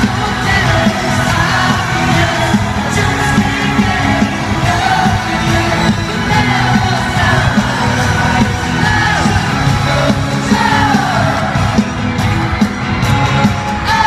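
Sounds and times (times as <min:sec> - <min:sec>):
amplified pop music with singing: 0:00.0 - 0:14.0
crowd singing along and yelling: 0:00.0 - 0:14.0.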